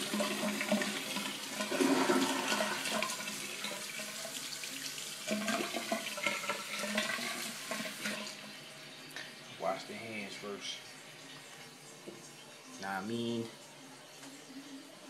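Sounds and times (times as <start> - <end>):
toilet flushing: 0.0 - 15.0.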